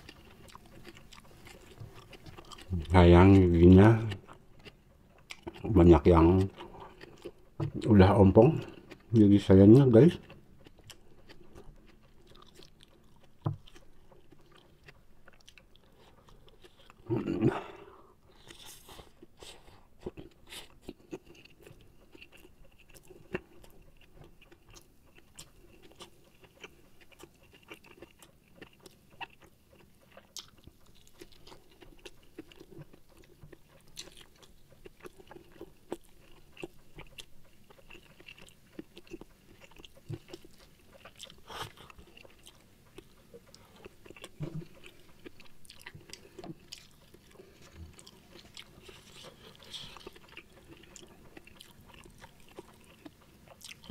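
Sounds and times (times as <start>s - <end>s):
chewing with wet mouth clicks: 0.0s - 53.9s.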